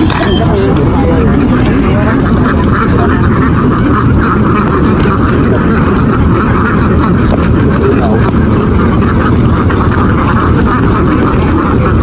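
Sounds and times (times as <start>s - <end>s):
flock of ducks quacking: 0.0s - 12.0s
low steady rumble: 0.0s - 12.0s.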